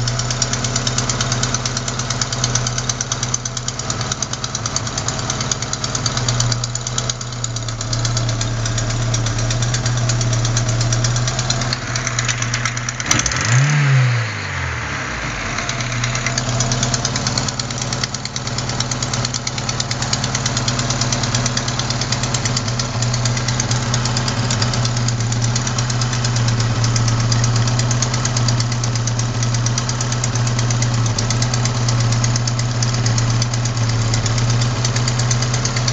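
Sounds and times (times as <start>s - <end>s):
car engine idling with ticking knock: 0.0s - 35.9s.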